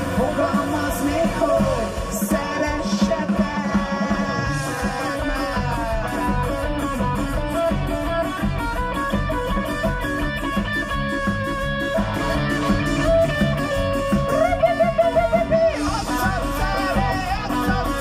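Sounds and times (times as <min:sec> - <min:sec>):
drum beat: 0:00.0 - 0:18.0
electric guitar: 0:00.0 - 0:18.0.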